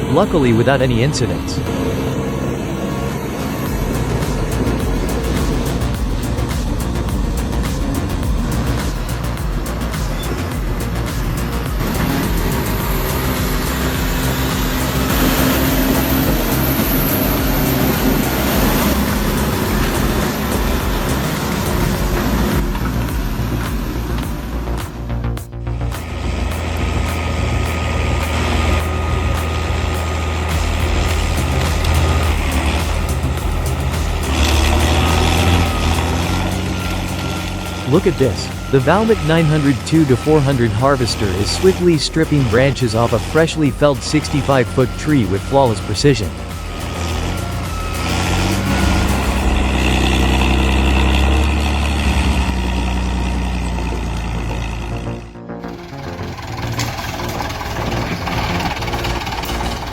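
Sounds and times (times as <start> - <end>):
background music with beat: 0.0 - 53.3, 53.9 - 59.9
heavy machine engine running: 0.0 - 59.9
high whine: 0.0 - 59.9.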